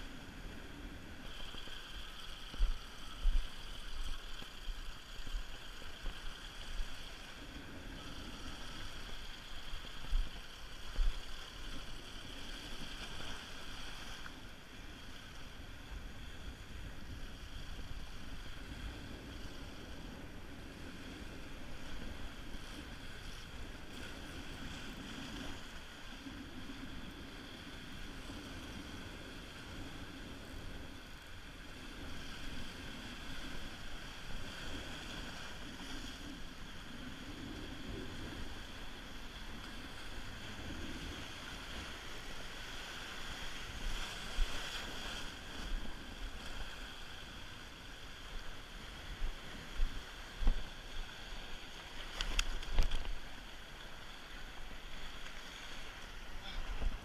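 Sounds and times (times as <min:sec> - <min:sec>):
surf washing over rocks: 0:00.0 - 0:57.0
wind rumbling on microphone: 0:00.0 - 0:57.0.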